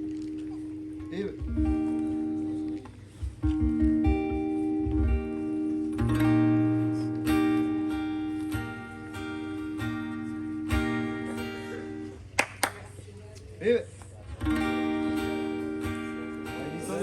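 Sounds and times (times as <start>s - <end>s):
acoustic guitar strumming chords: 0.0s - 12.4s, 14.3s - 17.0s.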